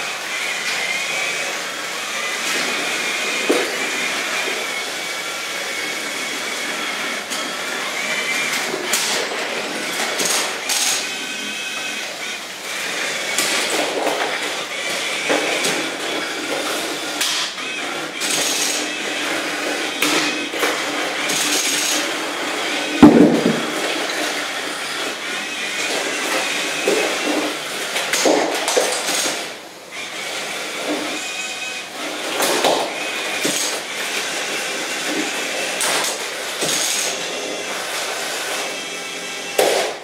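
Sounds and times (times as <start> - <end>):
small electric motors whining: 0.0 - 40.0.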